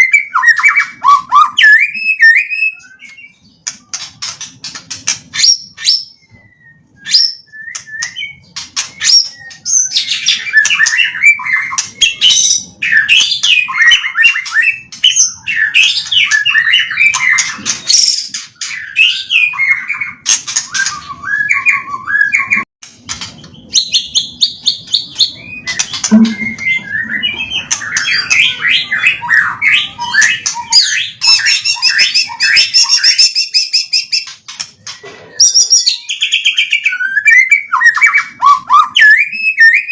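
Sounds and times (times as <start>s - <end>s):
bird singing whistles and trills: 0.0s - 22.6s, 23.4s - 39.9s.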